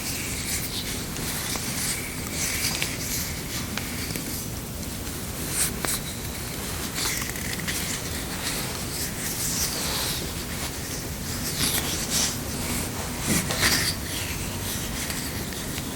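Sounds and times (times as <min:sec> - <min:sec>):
rubbing strokes on smooth object: 0:00.0 - 0:15.9.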